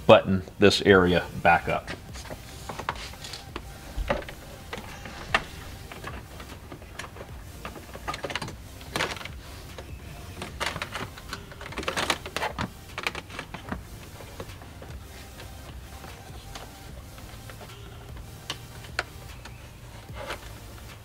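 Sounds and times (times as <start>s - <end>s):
cable rustling through plastic trim: 1.9s - 21.0s.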